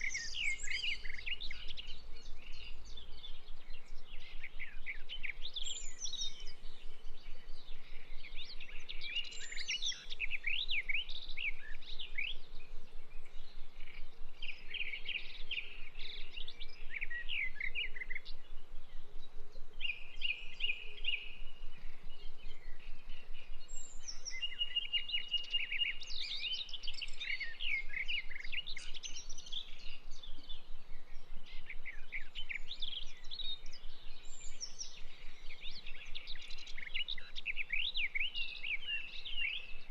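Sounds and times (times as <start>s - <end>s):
birds chirping and singing: 0.0s - 39.9s
faint background hiss: 0.0s - 39.9s.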